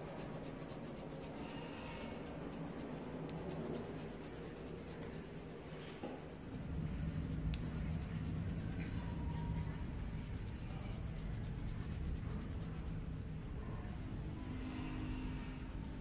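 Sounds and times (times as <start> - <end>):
low steady hum: 0.0 - 16.0
pencil scratching on paper: 0.0 - 16.0.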